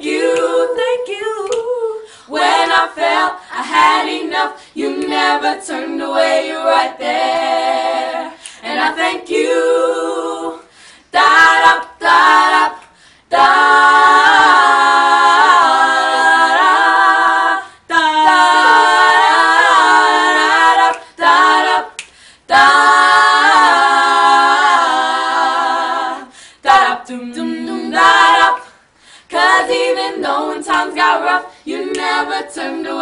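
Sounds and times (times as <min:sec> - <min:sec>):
girls singing a cappella: 0:00.0 - 0:33.0.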